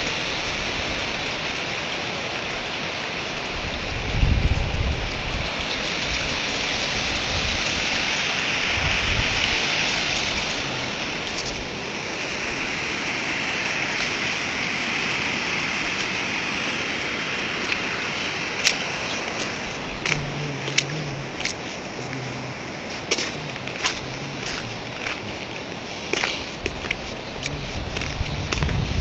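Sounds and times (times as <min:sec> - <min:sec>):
floodwater roaring: 0:00.0 - 0:29.0.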